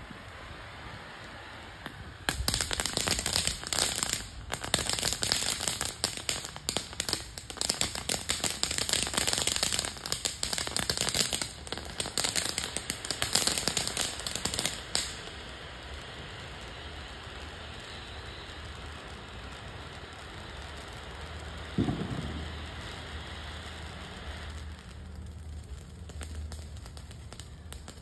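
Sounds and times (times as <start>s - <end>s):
firework crackling and hissing: 0.0s - 28.0s.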